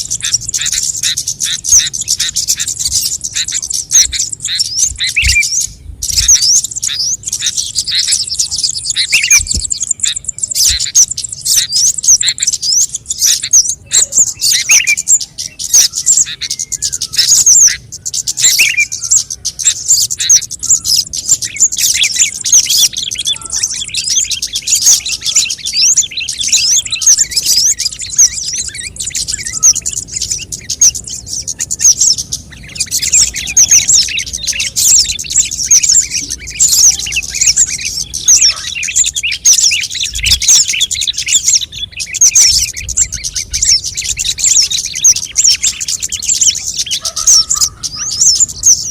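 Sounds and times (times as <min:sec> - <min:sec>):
high-pitched bird chirps: 0:00.0 - 0:48.9.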